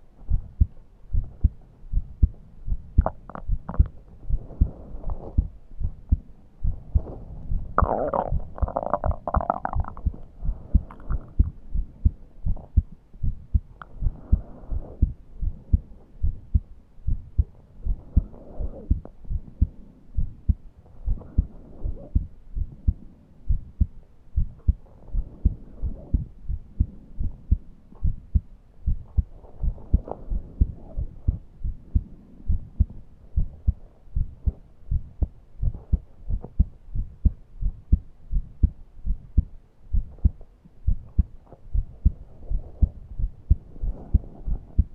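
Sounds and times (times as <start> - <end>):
heartbeat thuds: 0.0 - 44.9.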